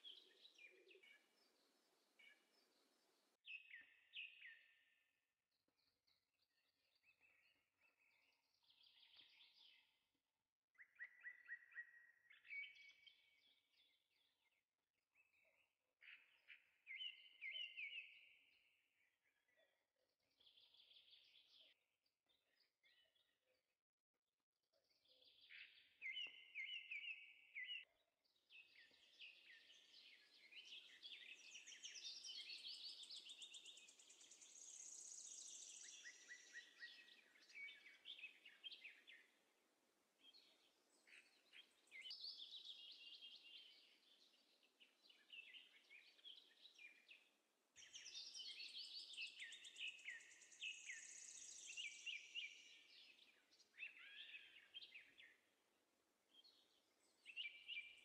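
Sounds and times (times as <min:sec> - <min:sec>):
songbirds chirping and twittering: 0:00.0 - 0:23.8, 0:24.5 - 0:58.0.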